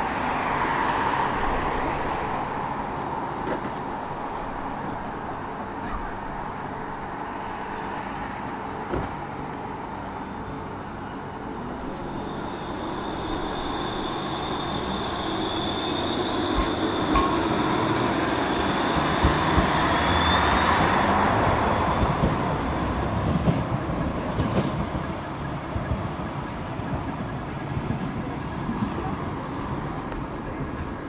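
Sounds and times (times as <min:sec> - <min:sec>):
tram electric whine: 0:00.0 - 0:31.0.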